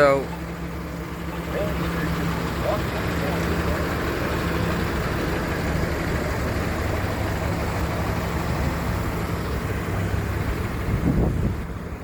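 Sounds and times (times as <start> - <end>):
road noise: 0.0 - 12.0
vehicle engine idling: 0.0 - 12.0.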